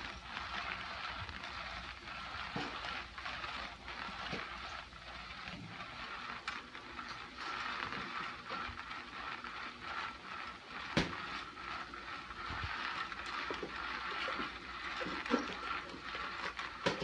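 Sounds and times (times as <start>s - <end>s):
motorized cat toy whirring: 0.0s - 17.0s.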